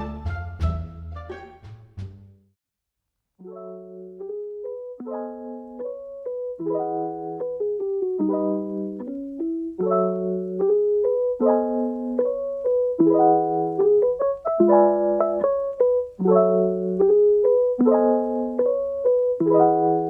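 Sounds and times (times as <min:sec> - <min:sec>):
keyboard chords and melody: 0:03.4 - 0:20.0.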